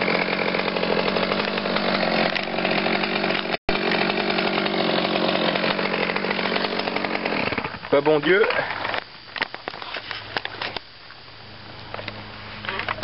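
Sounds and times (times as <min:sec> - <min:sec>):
chainsaw running: 0:00.0 - 0:10.8.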